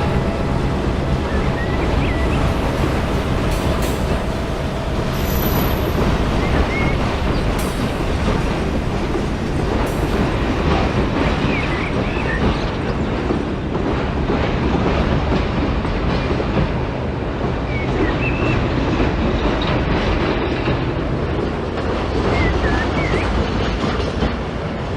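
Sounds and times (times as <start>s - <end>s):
train running: 0.0s - 24.9s.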